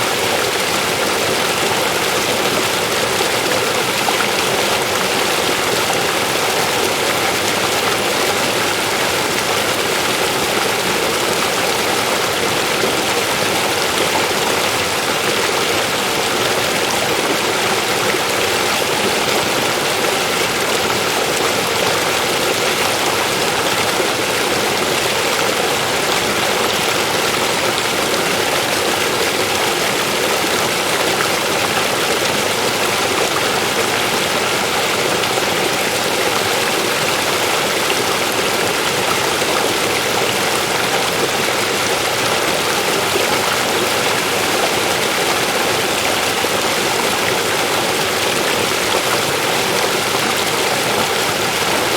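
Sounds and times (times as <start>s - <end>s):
river flowing over rocks: 0.0s - 51.9s.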